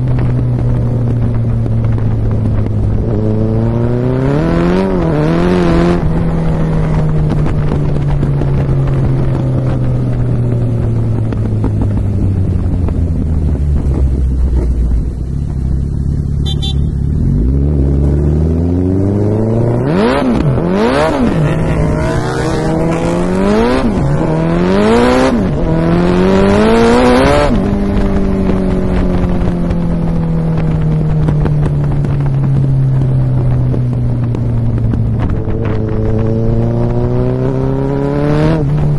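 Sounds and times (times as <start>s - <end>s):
motorcycle engine cruising: 0.0s - 38.9s
motorcycle throttle blips: 0.0s - 38.9s.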